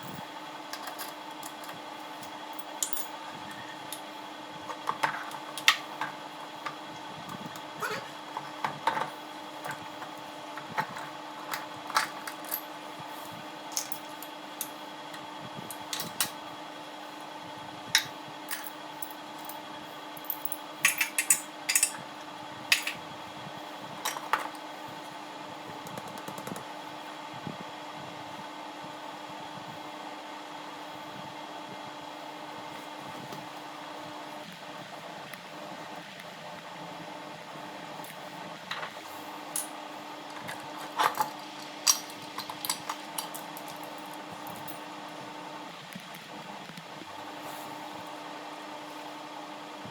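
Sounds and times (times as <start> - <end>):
steady mechanical hum: 0.0 - 49.9.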